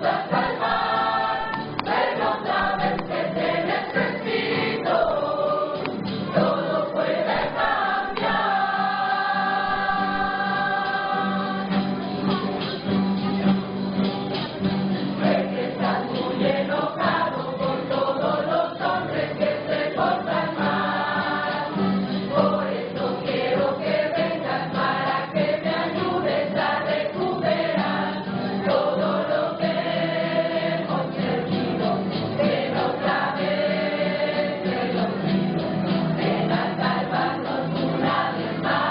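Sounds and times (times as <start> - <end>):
choir singing: 0.0 - 12.2, 15.1 - 38.9.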